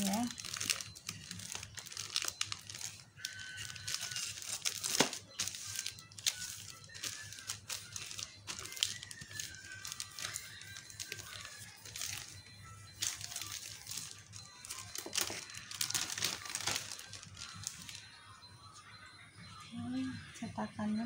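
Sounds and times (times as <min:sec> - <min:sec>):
plastic sheet crinkling: 0:00.0 - 0:18.1.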